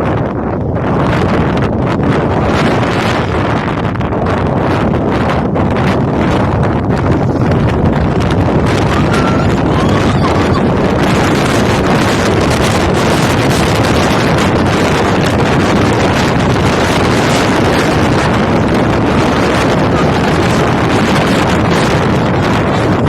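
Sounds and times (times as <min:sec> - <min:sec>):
strong wind on microphone: 0:00.0 - 0:23.0.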